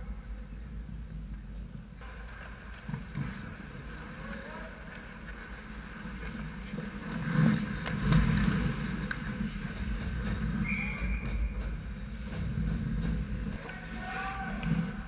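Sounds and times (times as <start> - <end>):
skates and sticks clattering: 1.2 - 15.0.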